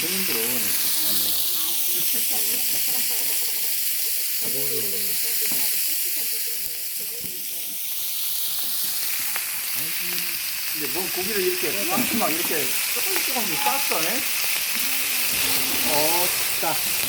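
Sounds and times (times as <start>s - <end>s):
sizzling hiss from iron lid: 0.0s - 17.0s.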